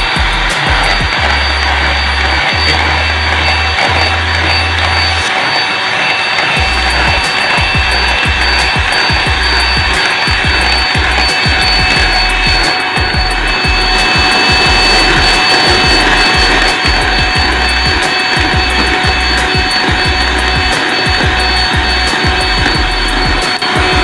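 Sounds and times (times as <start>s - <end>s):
electric hand mixer whining: 0.0s - 24.0s.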